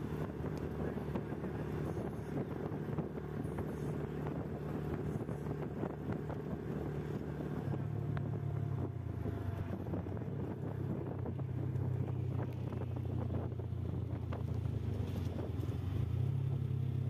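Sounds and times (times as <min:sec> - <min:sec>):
wind noise on microphone: 0:00.0 - 0:16.2
motorcycle engine running: 0:00.0 - 0:17.0.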